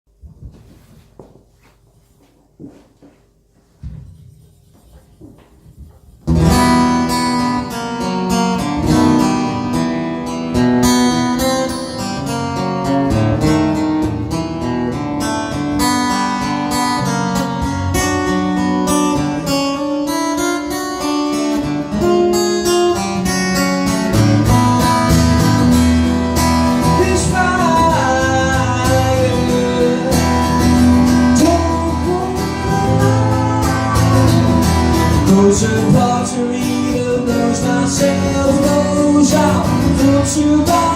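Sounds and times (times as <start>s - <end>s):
plucked and strummed guitar: 6.2s - 40.9s.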